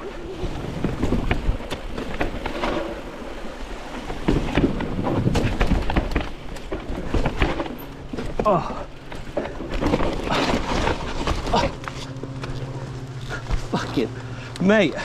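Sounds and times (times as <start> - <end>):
bike tyres rolling over dirt: 0.0 - 15.0
bike knocking and rattling: 0.5 - 15.0.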